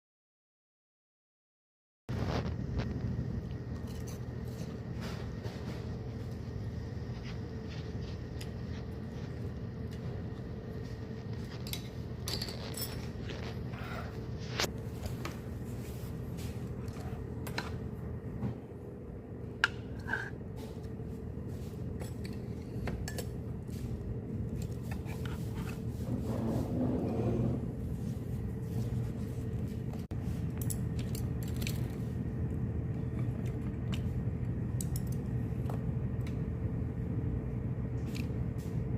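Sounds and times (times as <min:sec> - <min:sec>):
steady machine hum: 0:02.1 - 0:38.9.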